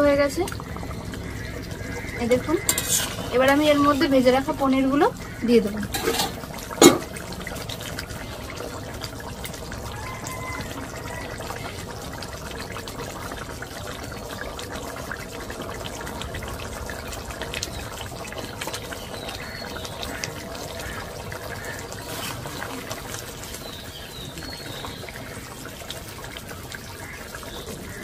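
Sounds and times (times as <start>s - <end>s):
curry bubbling at a boil: 0.0s - 28.0s.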